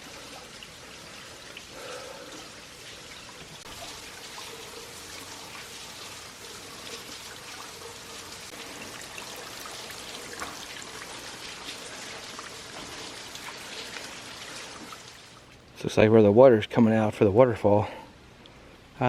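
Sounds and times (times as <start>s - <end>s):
water drips and spatters: 0.0s - 15.7s.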